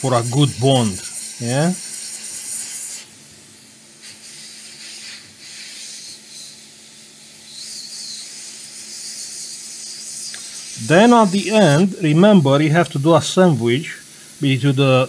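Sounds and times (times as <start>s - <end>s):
faint steady hum: 0.0s - 15.0s
hot air station hissing: 0.0s - 15.0s.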